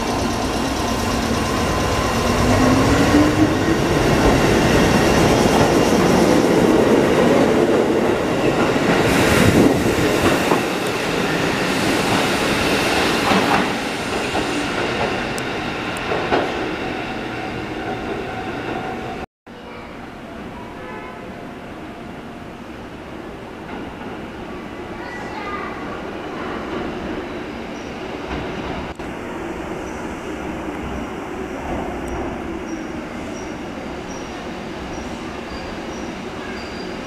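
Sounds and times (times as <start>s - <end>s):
rumble of train cars: 0.0s - 37.0s.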